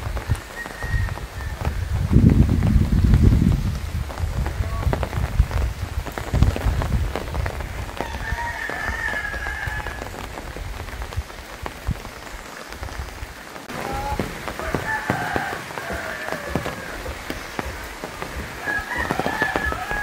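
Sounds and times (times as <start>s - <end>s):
drops ticking: 0.0s - 20.0s
steady rain falling: 0.0s - 20.0s.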